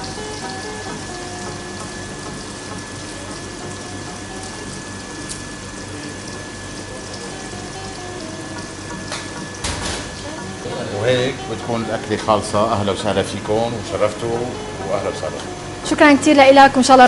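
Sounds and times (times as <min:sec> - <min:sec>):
faint melody: 0:00.0 - 0:17.0
rushing kitchen noise: 0:00.0 - 0:17.0.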